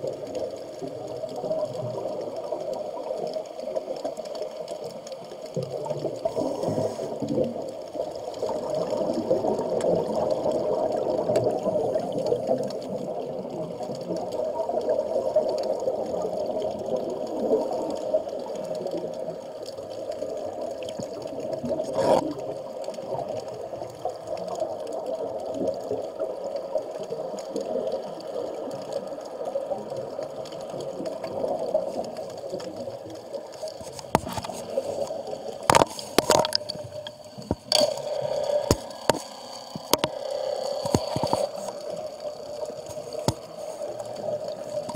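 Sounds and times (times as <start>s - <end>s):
underwater air bubbling: 0.0s - 44.9s.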